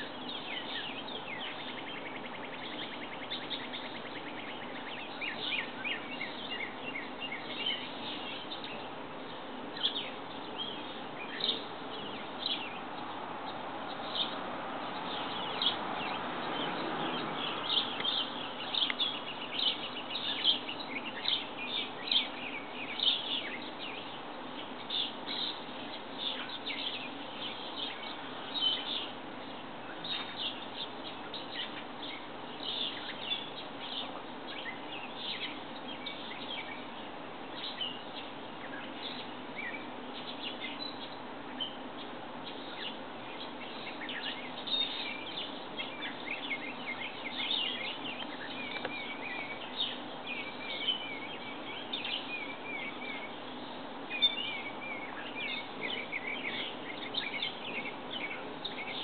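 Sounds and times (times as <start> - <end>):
outdoor background rush: 0.0 - 59.0
small birds chirping: 0.0 - 59.0.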